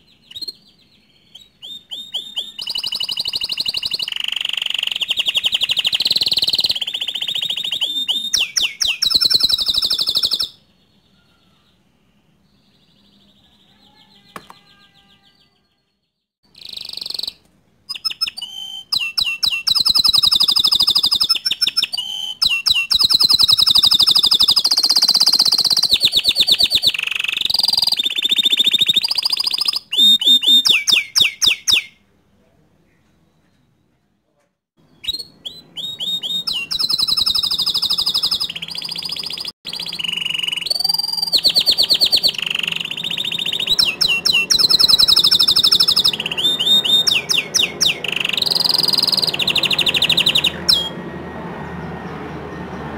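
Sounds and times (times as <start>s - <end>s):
canary singing trills: 0.0s - 32.0s, 34.8s - 52.9s.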